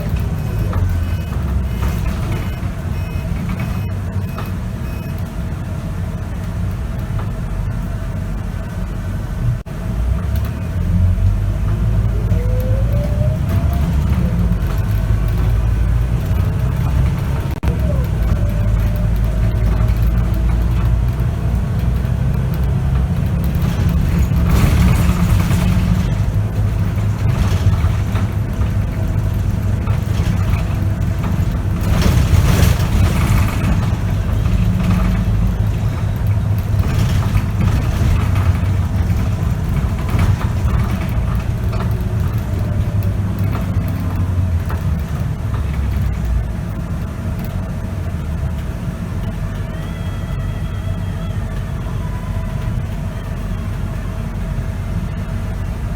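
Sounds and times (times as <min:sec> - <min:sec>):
bus diesel engine: 0:00.0 - 0:55.9
rushes of road noise: 0:00.0 - 0:55.9.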